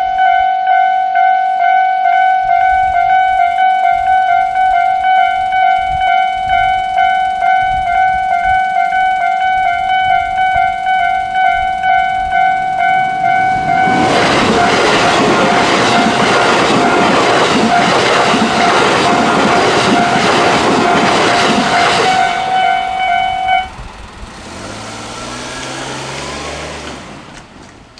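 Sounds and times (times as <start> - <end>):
level crossing alarm bell: 0.0 - 23.8
train passing over rails: 0.0 - 27.9.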